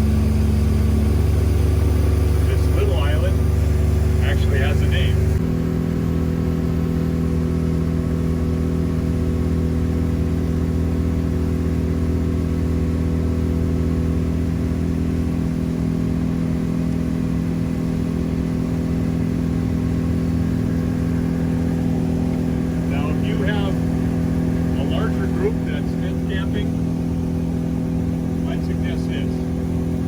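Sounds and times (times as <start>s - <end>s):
motorboat engine running: 0.0s - 30.0s.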